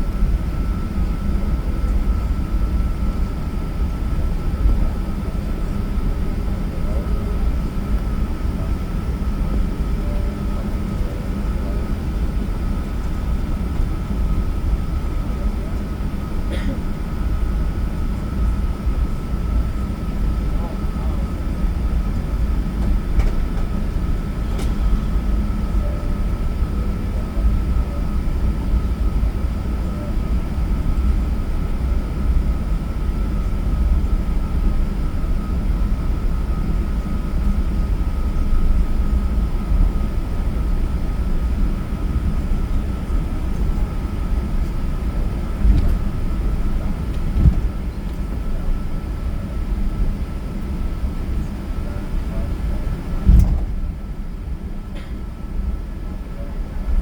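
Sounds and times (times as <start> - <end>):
aircraft cabin rumble and whine: 0.0 - 57.0.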